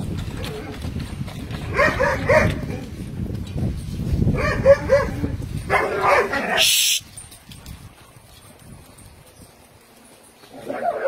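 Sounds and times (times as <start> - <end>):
dogs barking and yipping: 0.2 - 3.0, 4.2 - 11.0.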